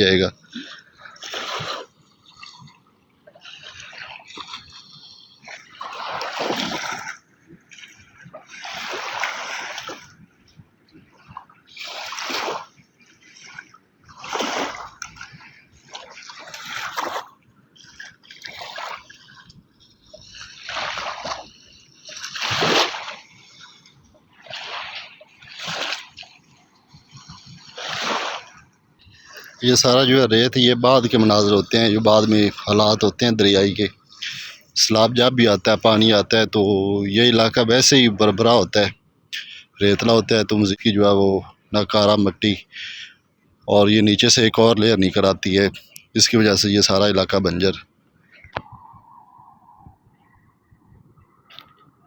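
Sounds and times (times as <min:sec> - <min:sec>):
river water splashing at bank: 0:00.0 - 0:48.9.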